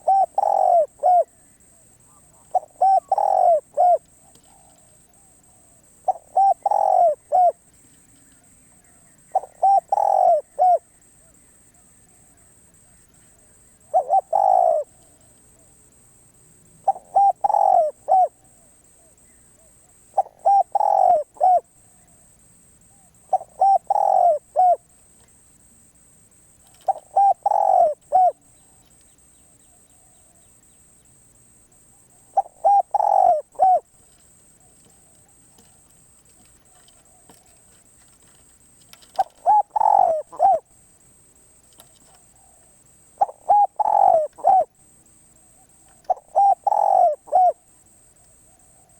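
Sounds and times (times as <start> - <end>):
dove cooing: 0.0 - 15.8, 16.8 - 24.9, 26.6 - 29.0, 31.9 - 40.7, 41.7 - 44.8, 45.5 - 48.9.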